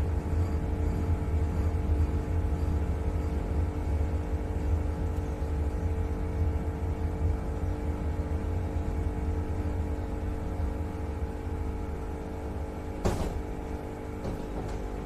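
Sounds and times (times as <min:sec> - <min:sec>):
electrical hum: 0:00.0 - 0:15.0
train low rumble: 0:00.0 - 0:15.0.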